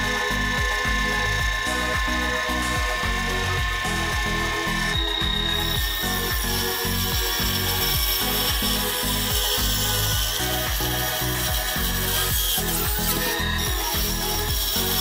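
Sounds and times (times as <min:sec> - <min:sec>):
background music with bass: 0:00.0 - 0:15.0
table saw cutting wood: 0:00.0 - 0:15.0.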